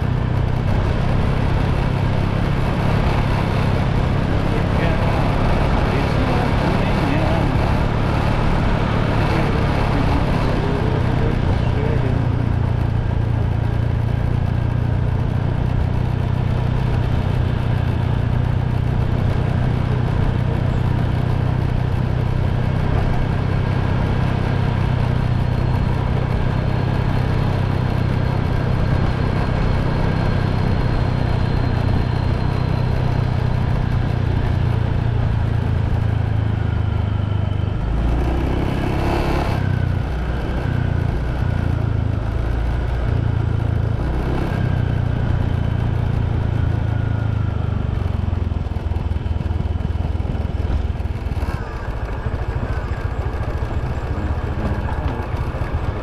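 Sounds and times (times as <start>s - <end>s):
motorbike engine cruising: 0.0s - 56.0s
wind and road noise: 0.0s - 56.0s.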